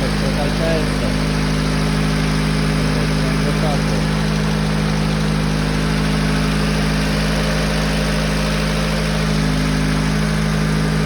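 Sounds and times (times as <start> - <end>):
petrol engine idling: 0.0 - 11.0.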